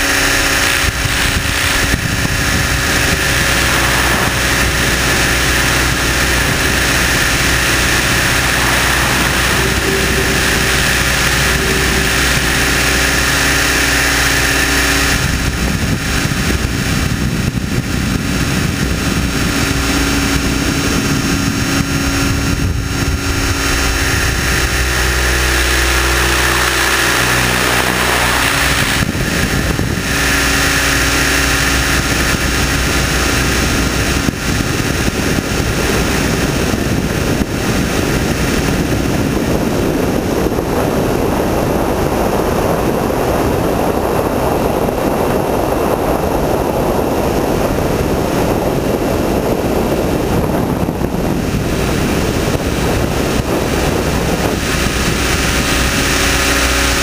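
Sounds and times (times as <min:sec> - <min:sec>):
model helicopter rotor whine: 0:00.0 - 0:57.0.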